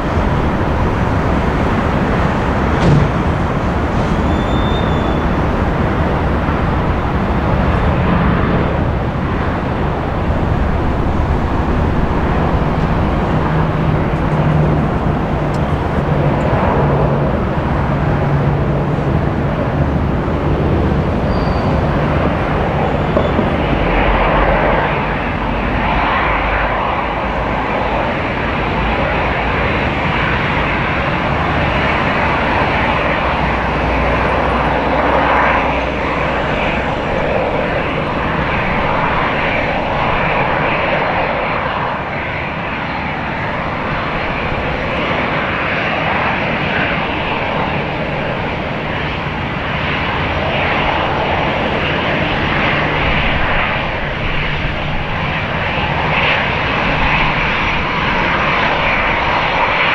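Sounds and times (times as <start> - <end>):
jet engines taxiing: 0.0 - 59.9.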